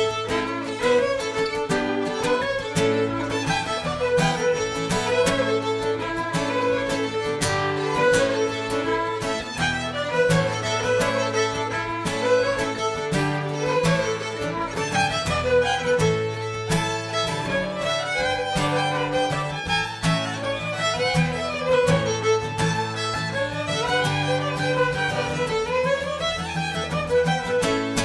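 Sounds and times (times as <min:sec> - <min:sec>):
fiddles playing a folk tune: 0:00.0 - 0:28.0.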